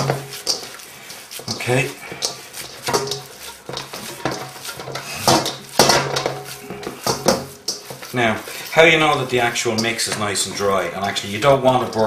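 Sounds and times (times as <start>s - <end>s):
hands kneading minced meat: 0.0s - 12.0s
metal bowl knocking and rattling: 0.0s - 12.0s.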